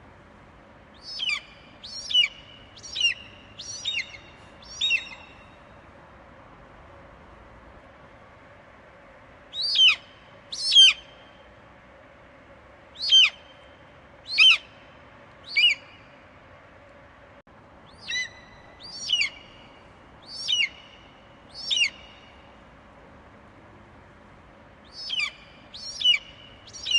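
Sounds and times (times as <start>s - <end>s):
background hiss: 0.0s - 26.9s.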